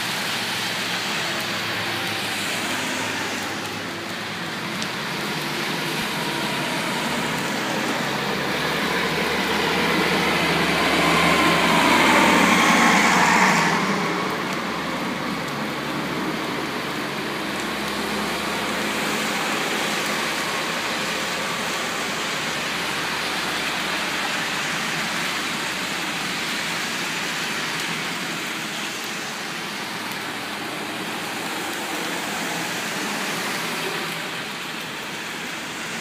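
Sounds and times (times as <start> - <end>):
cars driving through water: 0.0 - 36.0
rain hissing: 0.0 - 36.0.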